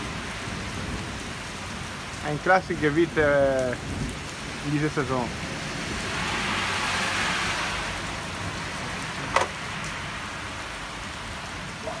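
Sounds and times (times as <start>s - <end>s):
rain falling on wet pavement: 0.0s - 12.0s.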